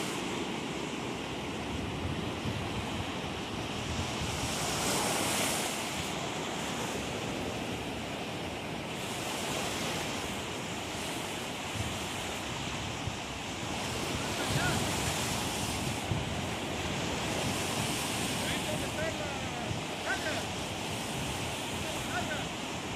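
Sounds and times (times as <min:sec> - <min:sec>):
surf breaking on rocky beach: 0:00.0 - 0:22.9
wind buffeting microphone: 0:01.6 - 0:22.9.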